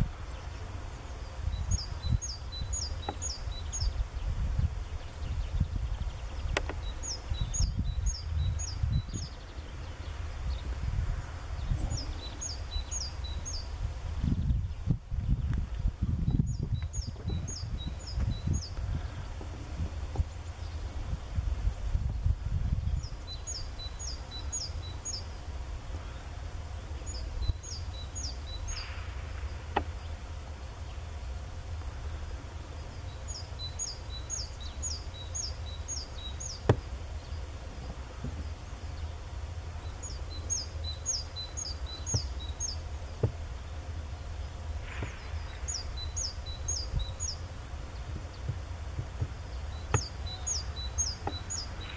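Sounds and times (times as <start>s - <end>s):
songbird singing: 0.0s - 51.9s
steady low rumble: 0.0s - 51.9s.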